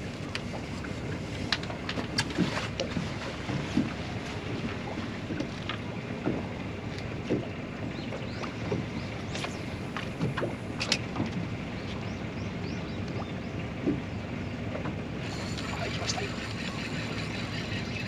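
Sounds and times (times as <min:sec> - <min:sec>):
steady water rush: 0:00.0 - 0:18.0
water lapping against boat hull: 0:00.0 - 0:18.0.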